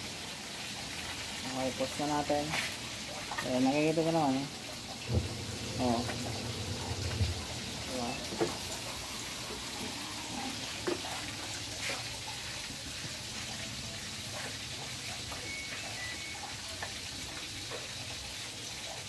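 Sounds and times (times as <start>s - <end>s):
water rushing in tub: 0.0s - 19.0s
washing machine running: 3.2s - 19.0s.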